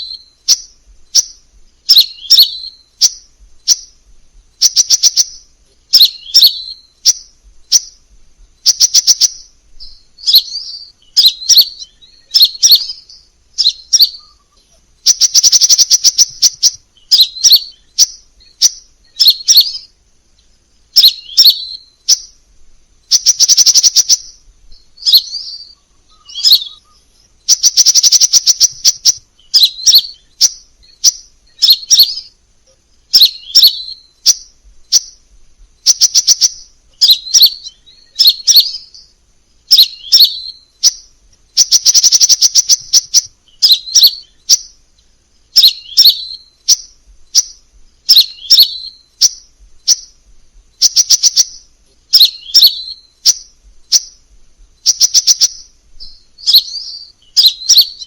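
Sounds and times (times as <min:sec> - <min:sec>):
bird ticking trills and chirps: 0:00.0 - 0:58.0.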